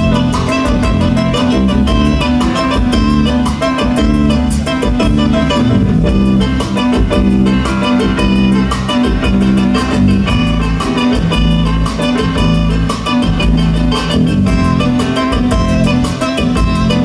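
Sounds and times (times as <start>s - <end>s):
live band keyboards and organ: 0.0s - 17.0s
steady rhythmic beat: 0.0s - 17.0s.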